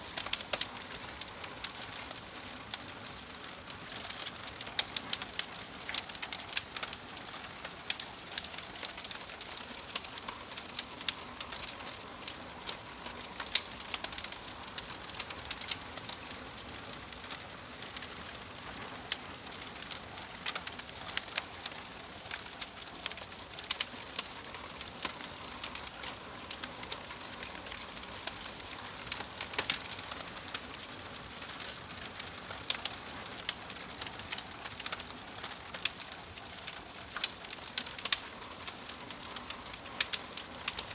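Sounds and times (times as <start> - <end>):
soft hiss of burning: 0.0 - 40.9
fire pops and snaps: 0.1 - 40.9.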